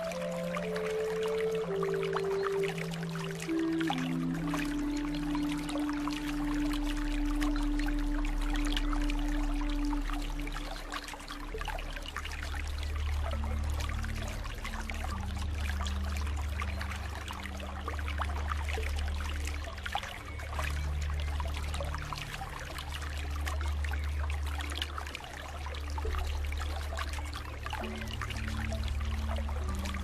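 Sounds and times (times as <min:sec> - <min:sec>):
low sustained tone: 0:00.0 - 0:30.0
water flowing and trickling: 0:00.0 - 0:30.0.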